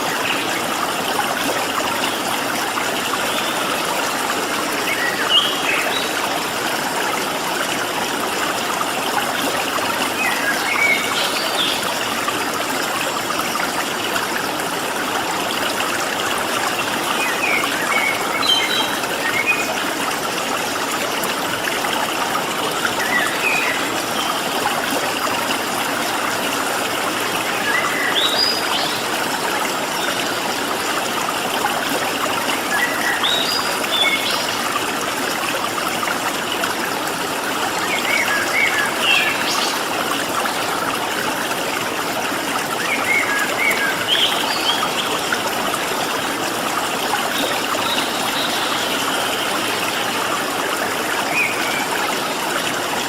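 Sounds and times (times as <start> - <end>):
water flowing and trickling: 0.0 - 53.0.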